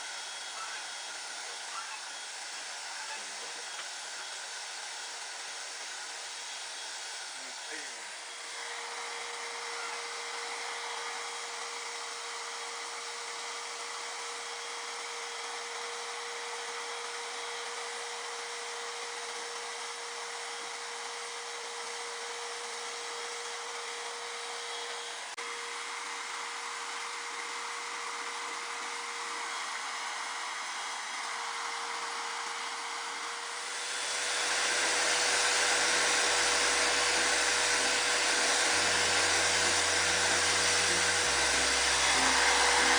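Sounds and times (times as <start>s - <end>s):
electric spray gun motor humming: 0.0s - 42.9s.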